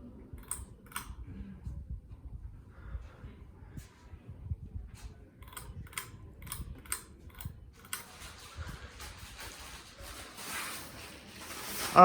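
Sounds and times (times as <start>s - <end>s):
ceiling fan wobbling: 0.0s - 12.0s.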